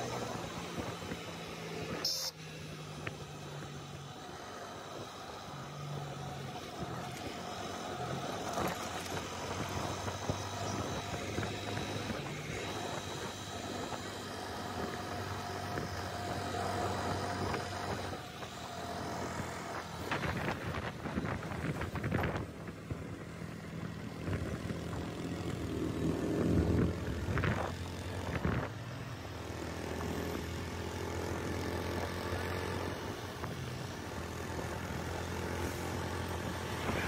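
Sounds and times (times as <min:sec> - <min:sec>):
motorcycle engine cruising: 0:00.0 - 0:37.0
road noise: 0:00.0 - 0:37.0.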